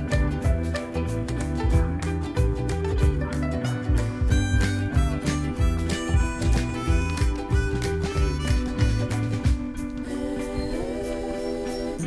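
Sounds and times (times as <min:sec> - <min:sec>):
upbeat guitar music: 0:00.0 - 0:12.0.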